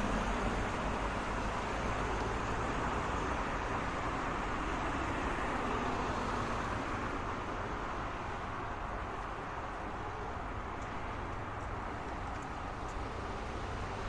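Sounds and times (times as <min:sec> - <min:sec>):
passing cars: 0:00.0 - 0:14.0.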